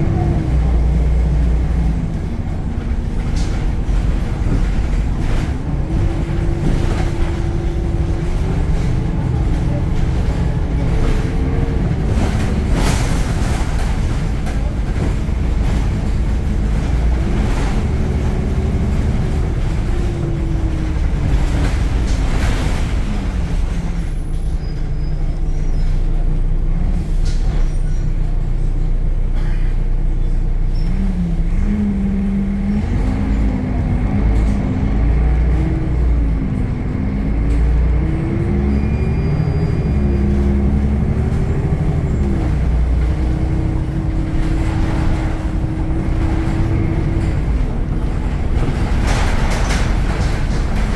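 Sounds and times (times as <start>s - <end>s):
bus engine rumble with whine: 0.0s - 50.9s.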